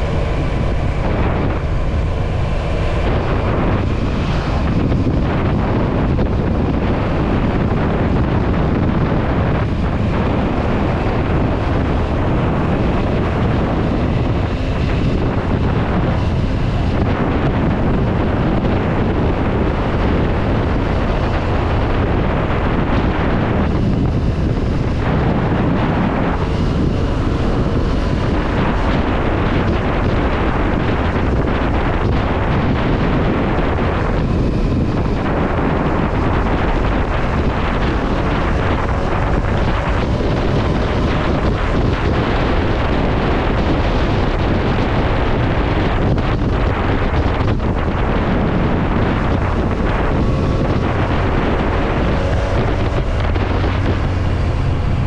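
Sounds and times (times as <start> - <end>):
motorcycle running: 0.0 - 55.0
wind buffeting microphone: 0.0 - 55.0.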